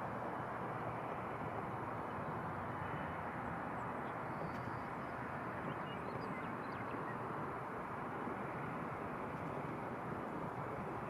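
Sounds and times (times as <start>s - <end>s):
distant jet engines roaring: 0.0s - 11.0s.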